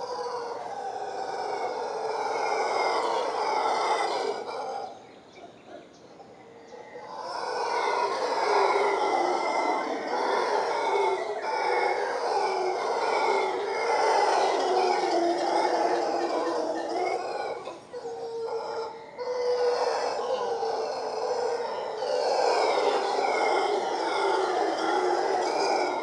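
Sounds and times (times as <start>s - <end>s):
howler monkeys howling: 0.0s - 26.0s.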